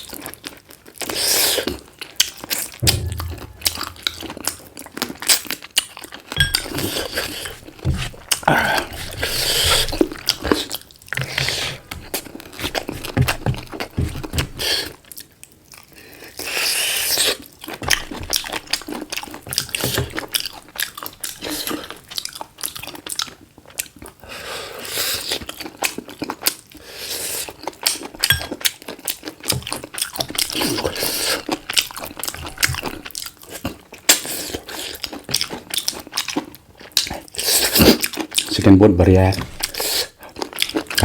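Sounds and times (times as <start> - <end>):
person chewing chicken: 0.0 - 41.0.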